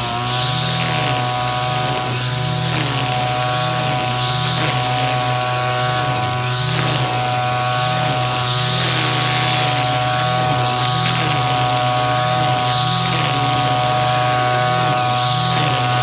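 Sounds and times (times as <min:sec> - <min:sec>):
brush cutter engine running: 0:00.0 - 0:16.0
swish of grass being cut: 0:00.0 - 0:16.0.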